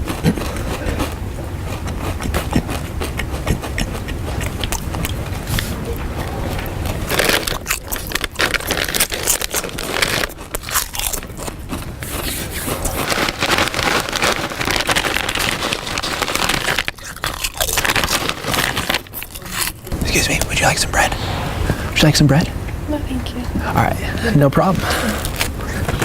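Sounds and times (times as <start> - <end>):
person crunching food: 0.0 - 20.7, 25.2 - 26.0.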